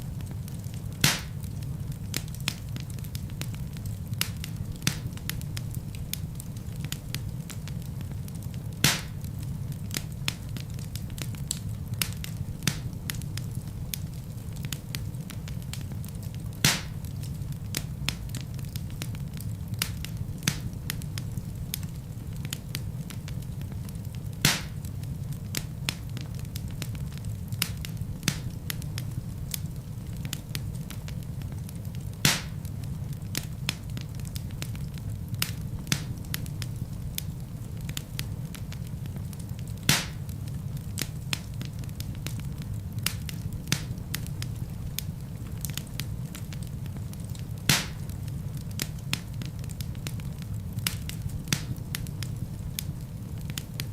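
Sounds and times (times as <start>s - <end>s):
burning logs popping: 0.0s - 53.9s
fire rumbling and crackling: 0.0s - 53.9s.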